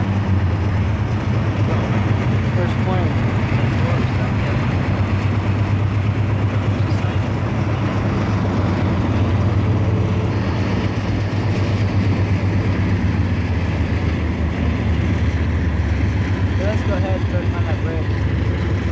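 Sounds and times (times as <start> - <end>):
car road and wind noise: 0.0 - 18.9.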